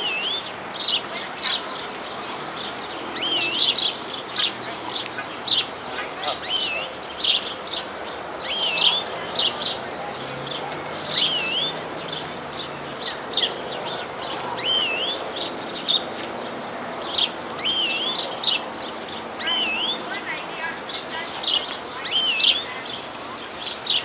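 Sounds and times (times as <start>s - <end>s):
greenfinch singing: 0.0s - 24.0s.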